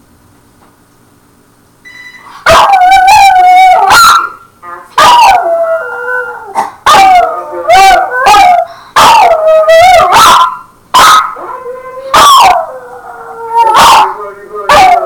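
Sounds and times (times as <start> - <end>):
dog howling: 2.5 - 15.0.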